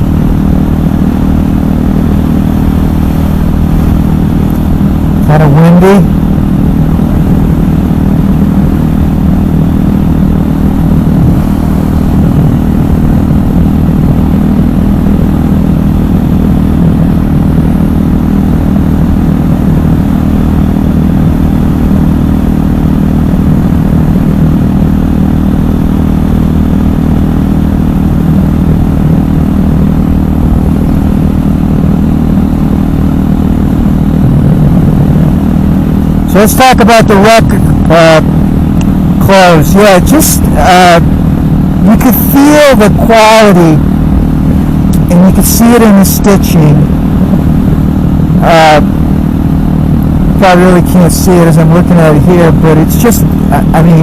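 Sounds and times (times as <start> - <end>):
wind noise: 0.0 - 42.0, 43.6 - 54.0
motorcycle engine running: 0.0 - 54.0.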